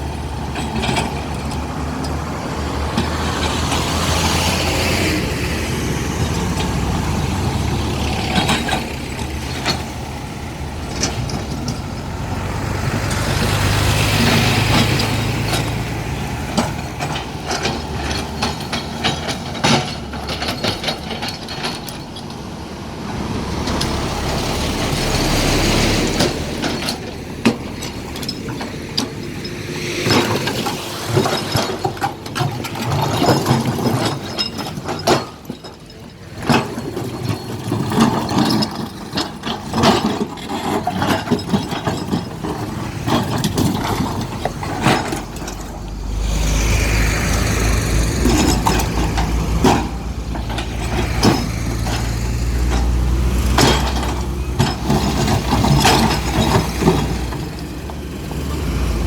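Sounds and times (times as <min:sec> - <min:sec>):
excavator diesel engine under load: 0:00.0 - 0:59.0.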